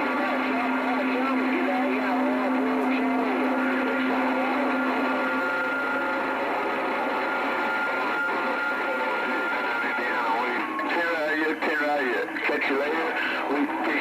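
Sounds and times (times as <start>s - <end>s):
garbled radio transmissions: 0.0s - 14.0s
radio static hiss: 0.0s - 14.0s.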